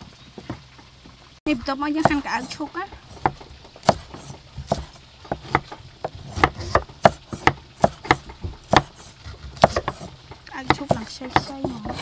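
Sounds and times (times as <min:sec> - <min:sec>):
cleaver chopping on wooden block: 0:02.0 - 0:12.0.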